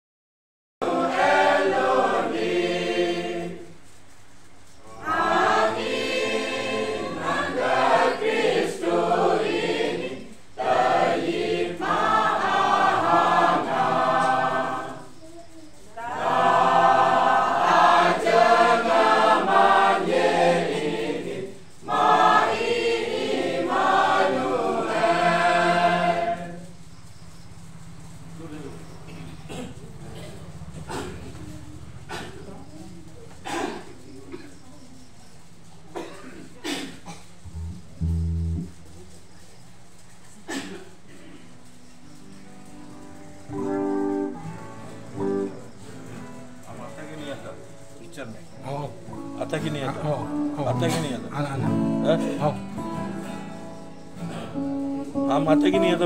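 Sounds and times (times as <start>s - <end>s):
mixed choir singing a carol: 0.8s - 56.0s.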